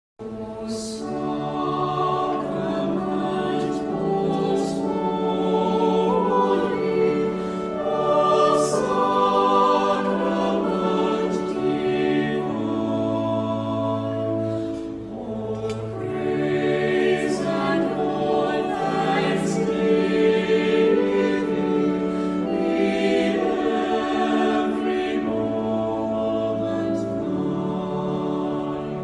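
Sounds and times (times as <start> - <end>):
choir singing slow chords: 0.2 - 29.0.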